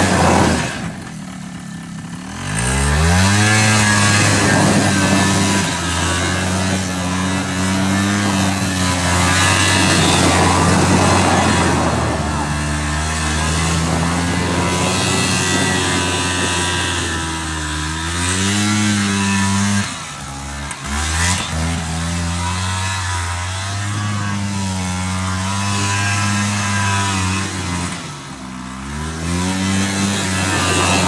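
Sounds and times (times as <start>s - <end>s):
atv engine revving: 0.0s - 31.0s.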